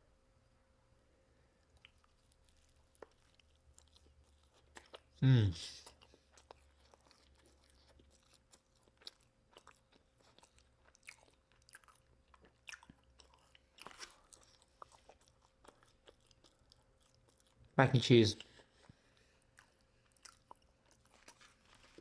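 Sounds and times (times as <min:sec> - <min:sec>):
person chewing crunchy food: 0:01.6 - 0:17.8, 0:18.4 - 0:22.0.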